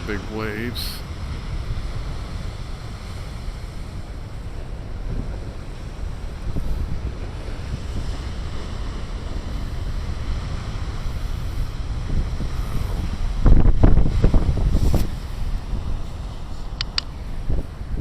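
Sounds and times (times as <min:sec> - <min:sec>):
surf breaking on rocks: 0:00.0 - 0:18.0
wind rumbling on microphone: 0:00.0 - 0:18.0.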